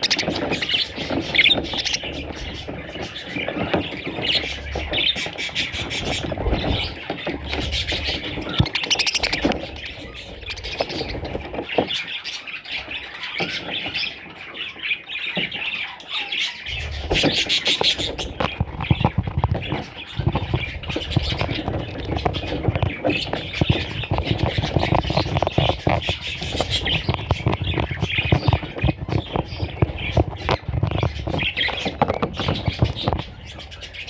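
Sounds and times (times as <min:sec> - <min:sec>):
budgerigars chirping and chattering: 0:00.0 - 0:34.0.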